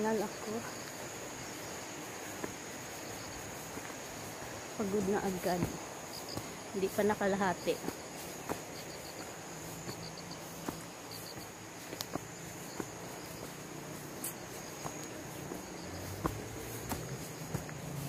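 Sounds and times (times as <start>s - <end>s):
insect chirps: 0.0s - 18.0s
insects buzzing: 0.0s - 18.0s
footsteps on dry leaves: 0.7s - 18.0s.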